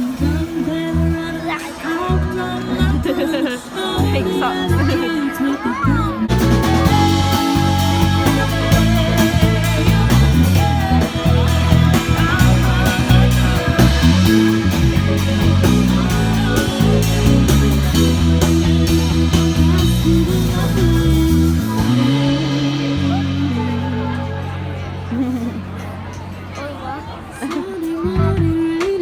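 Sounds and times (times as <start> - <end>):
rock music with electric guitar: 5.8 - 29.0.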